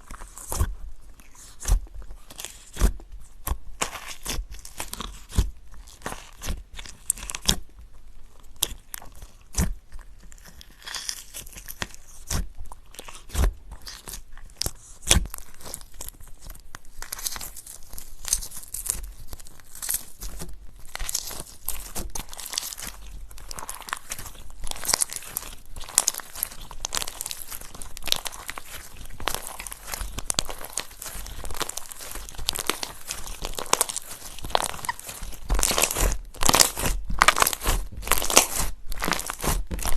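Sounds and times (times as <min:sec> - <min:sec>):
slime squished by hand: 0:00.0 - 0:07.7, 0:08.5 - 0:39.9.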